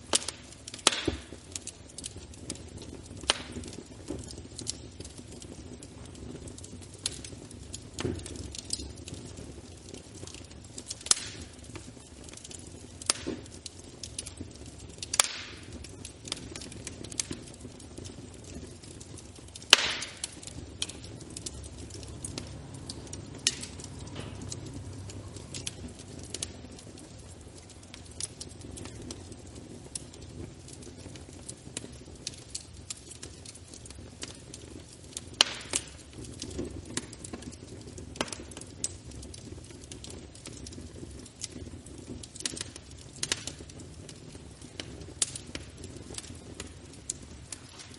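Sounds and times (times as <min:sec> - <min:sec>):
fire pops and snaps: 0:00.0 - 0:47.9
low rumble of flame: 0:00.0 - 0:47.9.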